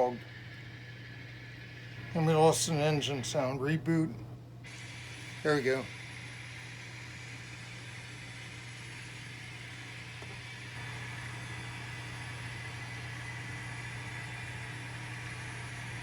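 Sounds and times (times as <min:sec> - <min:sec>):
model locomotive diesel sound: 0:00.0 - 0:16.0.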